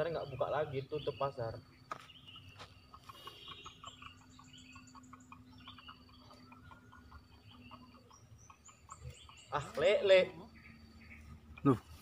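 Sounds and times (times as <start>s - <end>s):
higher chirps: 2.1s - 12.0s.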